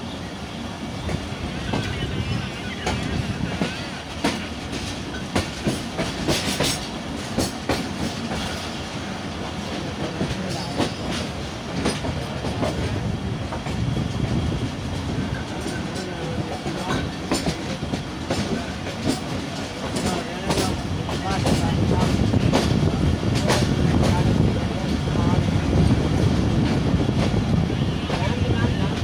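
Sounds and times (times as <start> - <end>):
train coach rumbling: 0.0 - 29.0.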